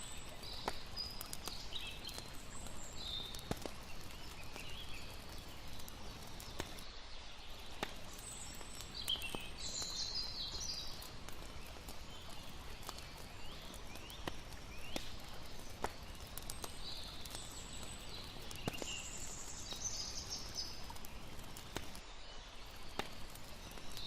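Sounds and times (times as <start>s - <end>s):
campfire crackling and popping: 0.0s - 24.0s
rushing water: 0.0s - 24.0s.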